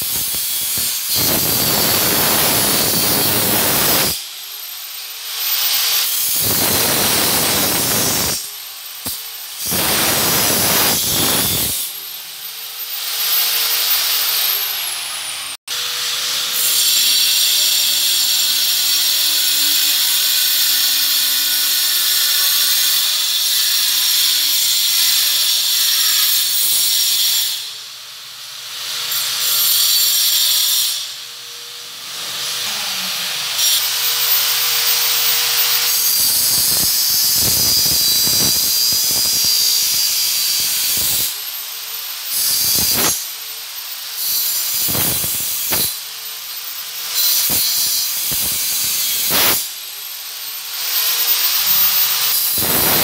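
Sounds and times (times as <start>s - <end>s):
angle grinder cutting tile: 0.0s - 27.8s, 28.6s - 53.0s.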